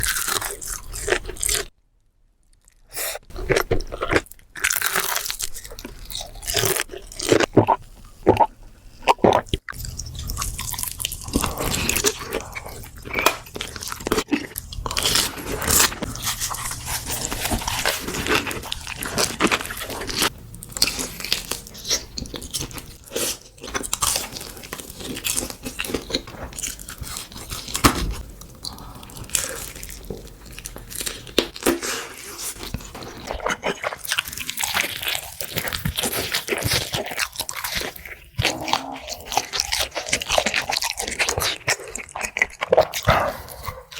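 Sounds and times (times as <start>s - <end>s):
crunchy chewing of fried chicken: 0.0s - 1.7s, 2.6s - 43.9s.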